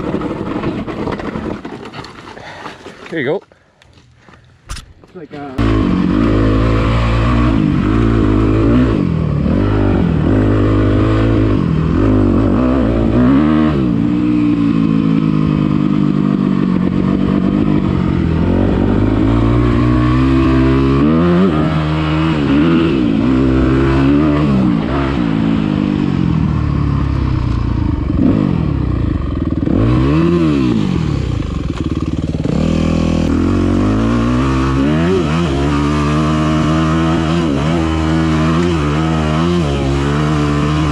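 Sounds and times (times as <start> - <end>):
dirt bike engine revving: 5.4 - 40.9.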